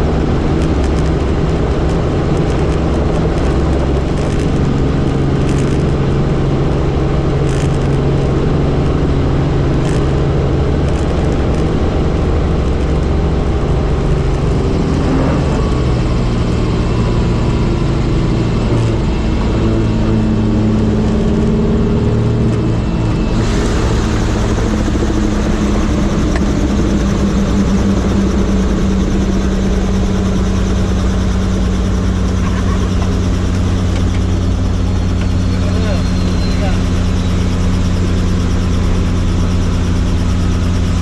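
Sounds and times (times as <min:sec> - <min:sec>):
helicopter rotor and engine drone: 0:00.0 - 0:41.0.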